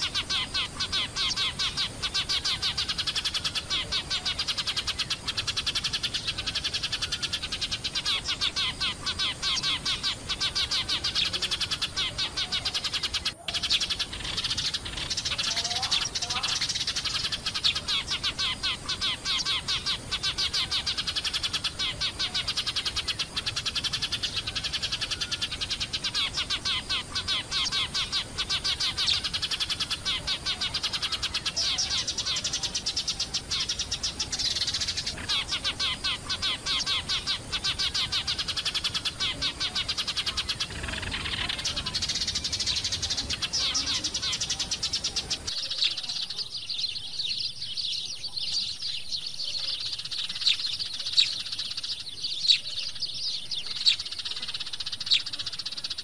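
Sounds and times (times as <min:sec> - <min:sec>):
sparrows chirping: 0:00.0 - 0:56.0.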